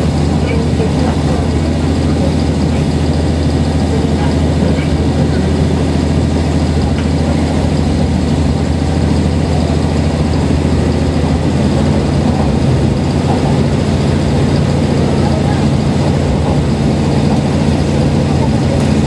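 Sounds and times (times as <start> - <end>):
railcar engine droning: 0.0 - 19.0
train running noise: 0.0 - 19.0.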